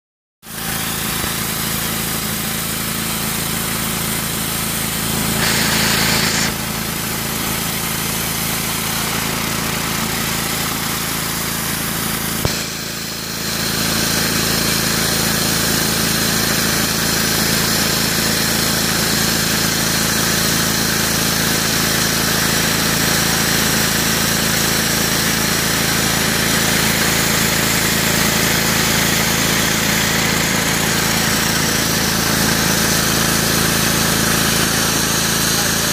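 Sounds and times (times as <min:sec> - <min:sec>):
surface cleaner hissing water spray: 0:00.5 - 0:35.9.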